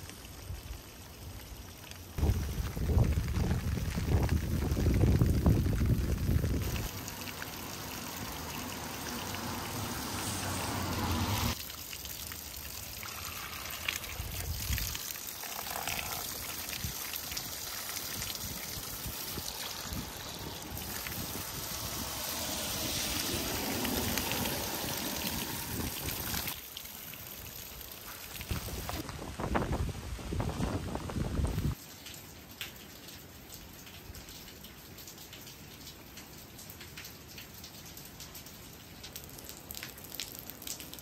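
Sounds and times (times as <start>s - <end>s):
water trickling and splashing on stones: 0.0s - 41.0s.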